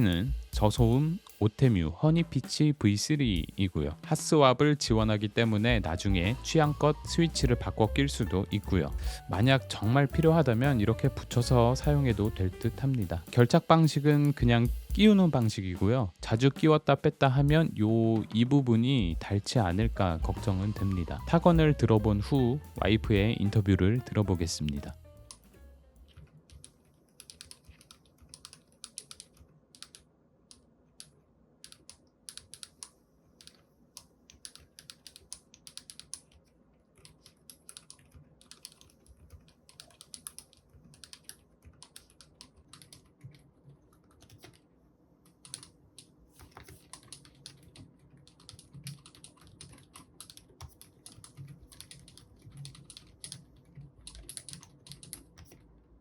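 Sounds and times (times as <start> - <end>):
quiet keyboard typing: 5.0 - 14.4, 17.6 - 56.0.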